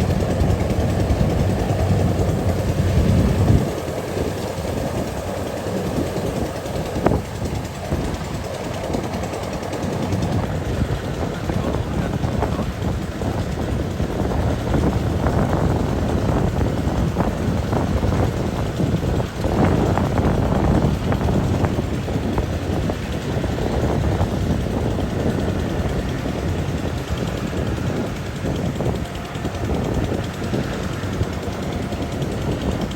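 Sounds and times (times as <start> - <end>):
combine harvester engine running: 0.0 - 32.9
wind buffeting microphone: 0.0 - 32.9.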